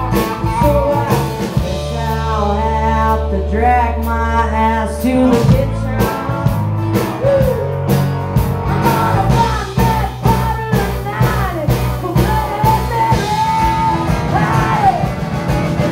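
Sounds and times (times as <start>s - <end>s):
woman singing: 0.0s - 6.6s, 8.8s - 15.1s
rock band playing: 0.0s - 15.9s.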